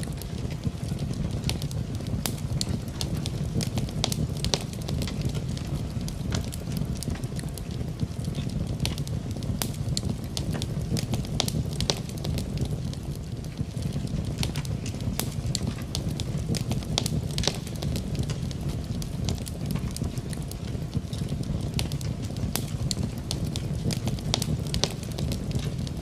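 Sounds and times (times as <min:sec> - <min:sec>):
rain: 0:00.0 - 0:26.0
wood fire crackling and popping: 0:00.0 - 0:26.0.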